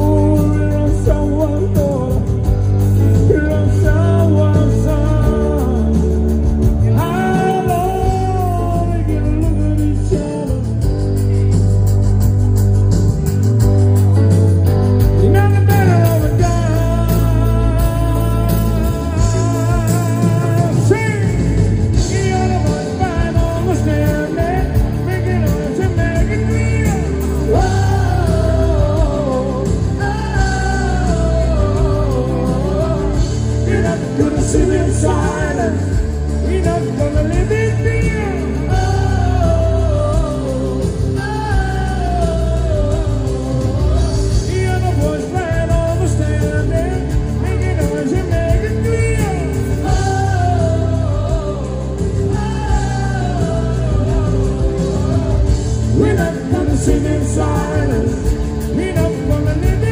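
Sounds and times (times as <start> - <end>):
person singing: 0.0 - 13.7, 14.6 - 59.9
bass line: 0.0 - 59.9
electric guitars: 0.0 - 59.9
keyboards: 0.0 - 59.9.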